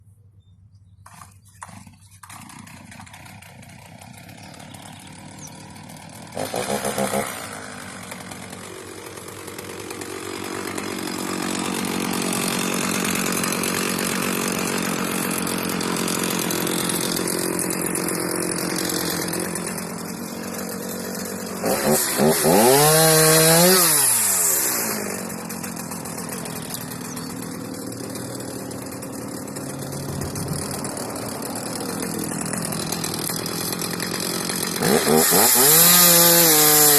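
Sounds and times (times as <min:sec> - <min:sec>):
chainsaw running and revving: 0:01.0 - 0:36.9.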